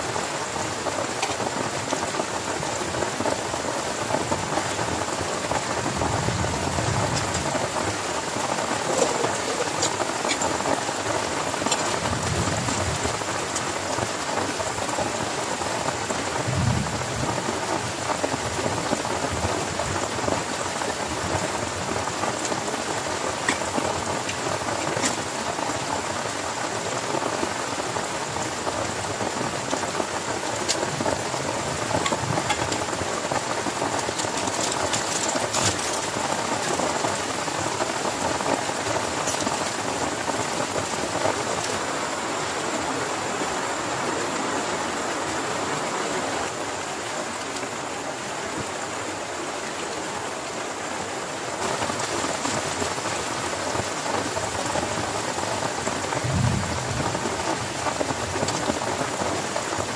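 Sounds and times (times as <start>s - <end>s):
heavy rain on a tent: 0.0s - 59.9s.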